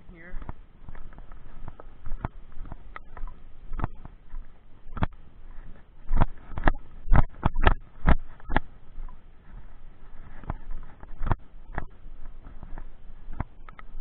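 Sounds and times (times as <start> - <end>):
raindrops tapping near microphone: 0.3 - 14.0.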